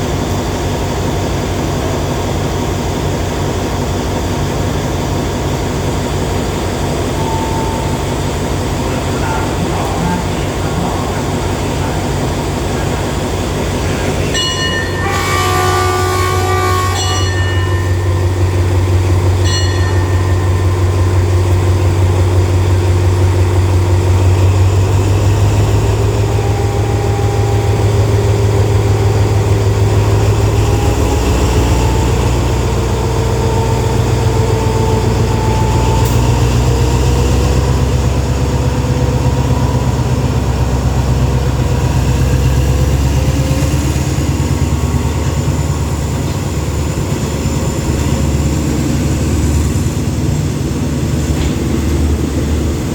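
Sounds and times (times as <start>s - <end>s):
locomotive engine deep hum: 0.0s - 52.9s.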